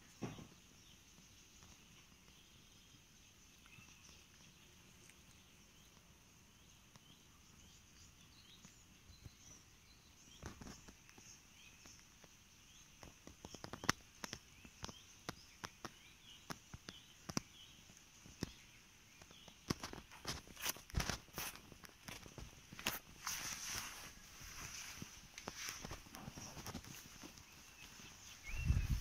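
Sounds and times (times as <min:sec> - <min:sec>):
distant birdsong: 0:00.0 - 0:29.0.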